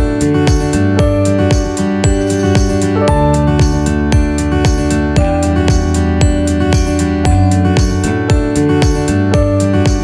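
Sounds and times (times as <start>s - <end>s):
instrumental guitar and keyboard music: 0.0s - 10.0s.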